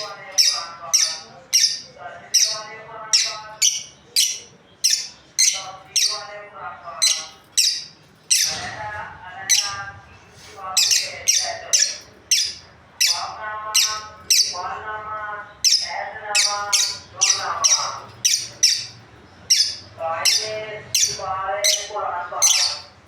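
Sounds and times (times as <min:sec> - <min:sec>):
lovebirds shrill chirps: 0:00.0 - 0:06.3, 0:07.0 - 0:08.8, 0:09.5 - 0:14.7, 0:15.6 - 0:23.0
lovebirds chattering squawks: 0:00.0 - 0:23.0.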